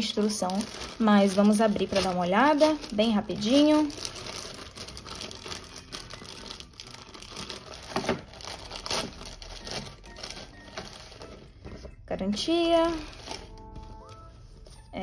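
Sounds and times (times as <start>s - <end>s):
plastic bag crinkling: 0.0s - 11.7s, 12.7s - 13.6s.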